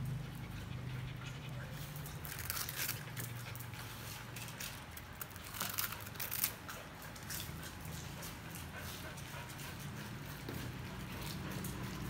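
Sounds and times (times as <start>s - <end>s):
dogs biting wooden comb: 0.0s - 12.0s
dogs' claws clicking on tile: 0.0s - 12.0s.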